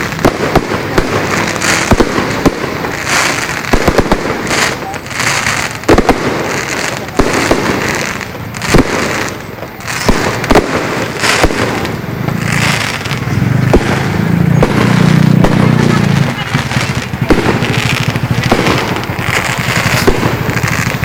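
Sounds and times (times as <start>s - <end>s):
fireworks crackling: 0.0s - 21.0s
fireworks shells bursting: 0.0s - 21.0s.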